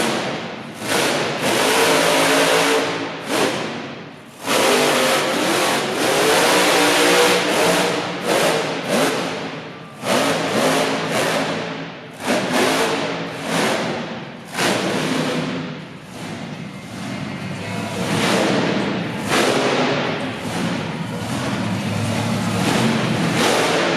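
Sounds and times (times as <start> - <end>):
truck engine revving: 0.0 - 23.9.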